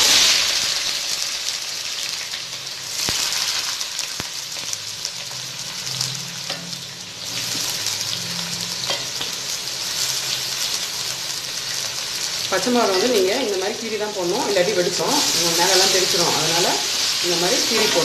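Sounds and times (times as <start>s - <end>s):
onions sizzling in hot oil: 0.0s - 18.0s
sharp crackles of frying: 0.0s - 18.0s.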